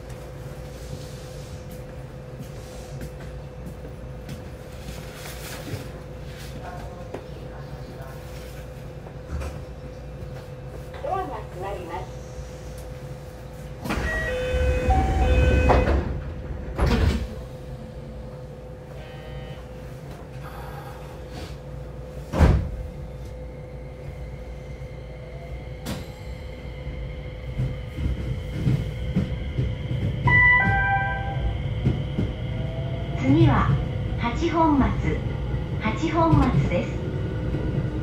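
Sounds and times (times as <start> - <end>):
train doors sliding and rumbling: 0.0 - 11.8, 12.5 - 38.0.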